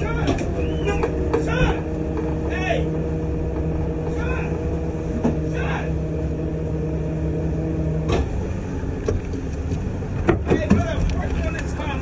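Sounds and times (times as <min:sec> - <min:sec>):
truck engine and hydraulic pump hum: 0:00.0 - 0:12.0.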